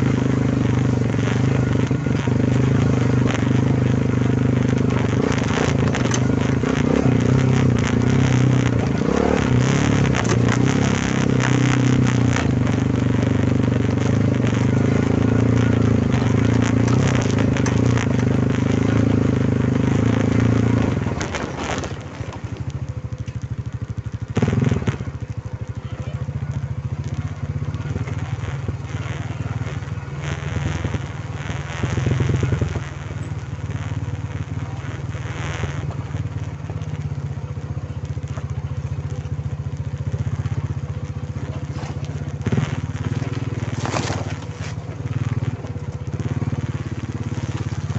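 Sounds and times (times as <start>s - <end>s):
quad bike engine running: 0.0s - 47.9s.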